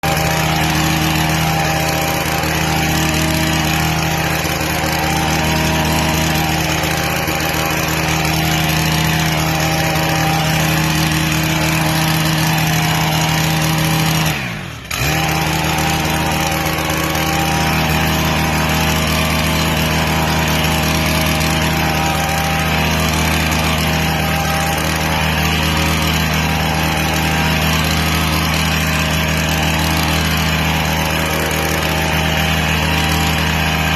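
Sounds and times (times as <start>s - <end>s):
hedge trimmer engine running: 0.0s - 33.9s.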